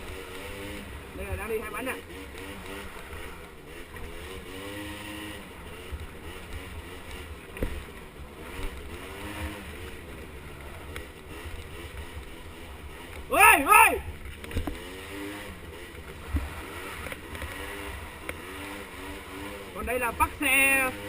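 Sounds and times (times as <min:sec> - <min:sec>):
mini atv engines buzzing: 0:00.0 - 0:21.0.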